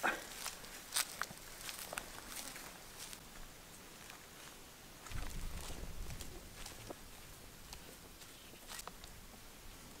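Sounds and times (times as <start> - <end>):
footsteps on dry grass and leaves: 0.1 - 9.5.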